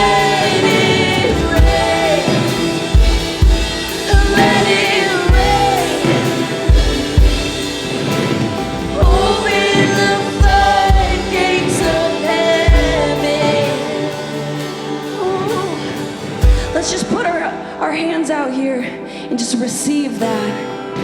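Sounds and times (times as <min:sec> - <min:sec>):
voices singing: 0:00.0 - 0:21.0
worship band playing: 0:00.0 - 0:21.0.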